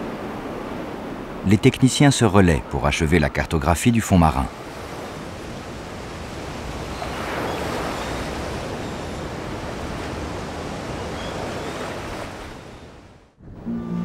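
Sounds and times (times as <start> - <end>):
sea waves washing: 0.0 - 14.0.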